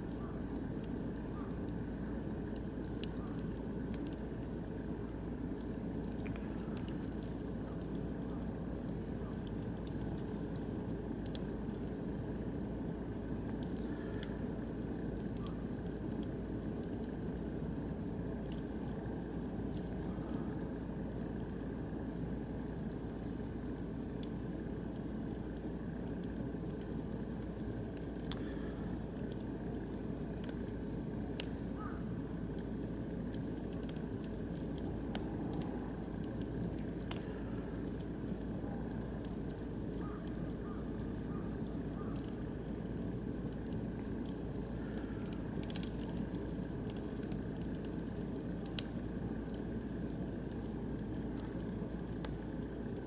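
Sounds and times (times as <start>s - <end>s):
wood crackling and popping: 0.0s - 53.0s
wood fire burning: 0.0s - 53.0s.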